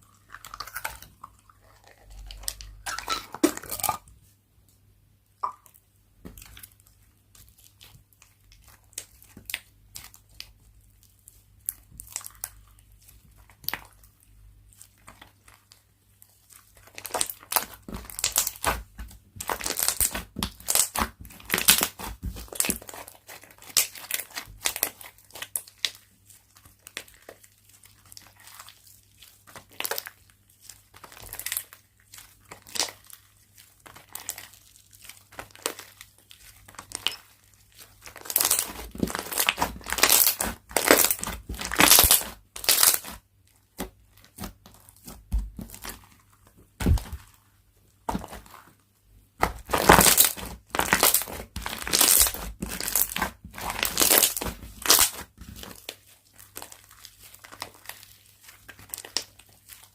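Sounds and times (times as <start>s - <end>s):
slime crackling and crinkling: 0.0s - 4.4s, 5.6s - 59.9s.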